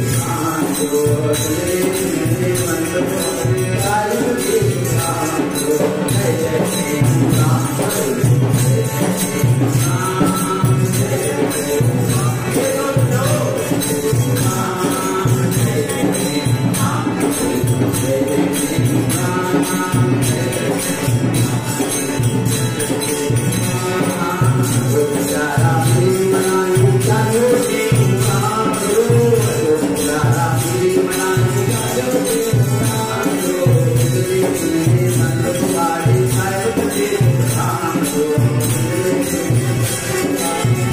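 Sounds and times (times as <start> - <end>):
harmonium playing a tune: 0.0 - 40.9
steady percussion beat: 0.0 - 40.9.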